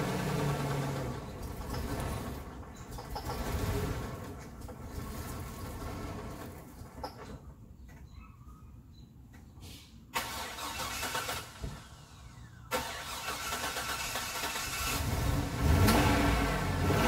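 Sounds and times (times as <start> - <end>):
engine cranked by starter: 0.0 - 7.3, 10.2 - 17.0.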